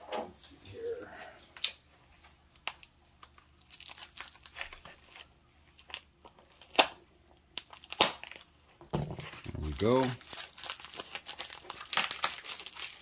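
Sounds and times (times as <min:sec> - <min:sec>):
packaging crinkling: 0:02.5 - 0:13.0.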